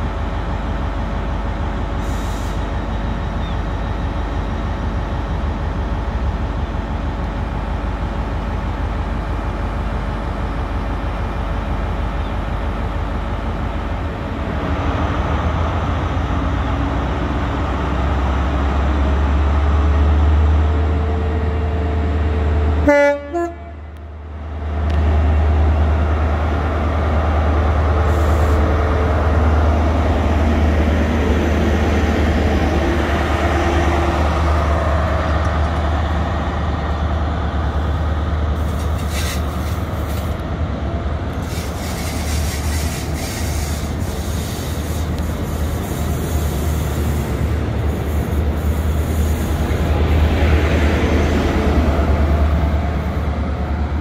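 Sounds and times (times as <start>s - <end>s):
diesel train engine droning: 0.0s - 54.0s
train coaches rolling past: 0.0s - 54.0s.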